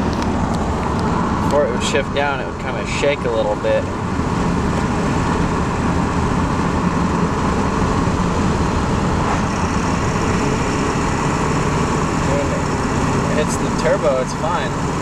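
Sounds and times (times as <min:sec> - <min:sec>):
diesel engine under throttle: 0:00.0 - 0:15.0
road noise: 0:00.0 - 0:15.0.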